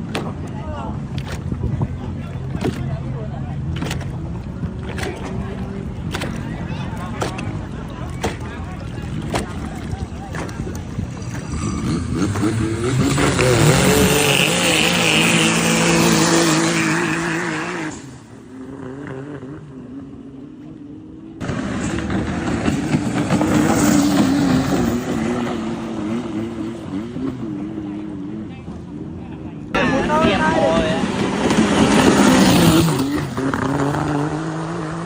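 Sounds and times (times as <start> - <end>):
boat engine at high revs: 0.0 - 35.0.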